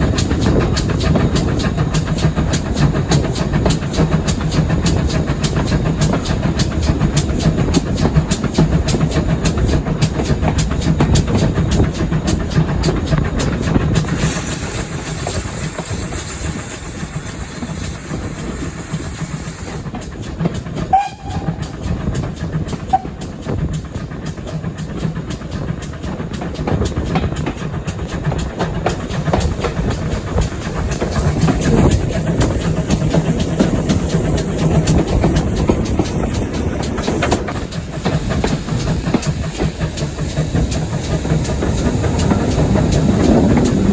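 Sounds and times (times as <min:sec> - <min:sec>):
high steam hiss: 0:00.0 - 0:43.9
train rumble: 0:00.0 - 0:43.9
wheels clattering on rail: 0:00.0 - 0:43.9.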